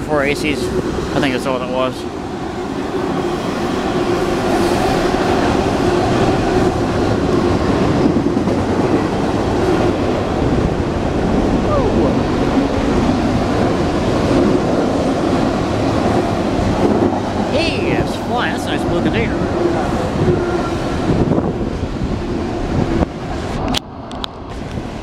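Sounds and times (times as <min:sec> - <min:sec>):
train wheels running on rails: 0:00.0 - 0:25.0.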